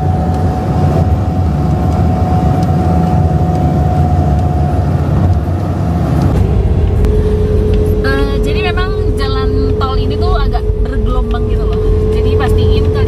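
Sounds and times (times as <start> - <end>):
car road and engine rumble: 0.0 - 13.0
thin steady whine: 0.0 - 13.0.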